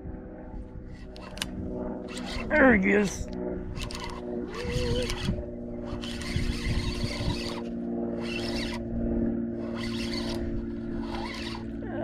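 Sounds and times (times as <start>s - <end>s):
boat engine droning: 0.8s - 12.0s.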